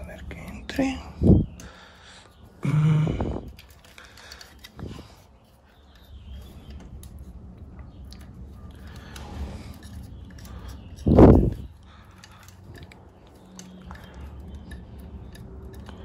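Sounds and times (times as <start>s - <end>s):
cable scraping and rustling: 0.0s - 16.0s.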